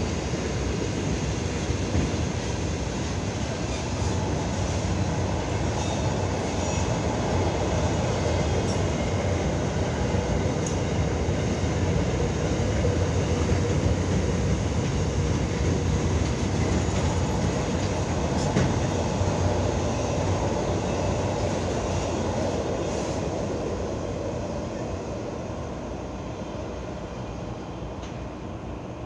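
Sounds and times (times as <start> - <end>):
train wagons rolling on rails: 0.0 - 29.0.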